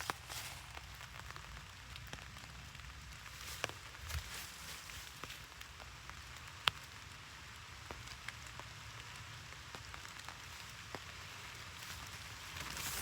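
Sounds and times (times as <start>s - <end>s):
steady rain hissing: 0.0s - 13.0s.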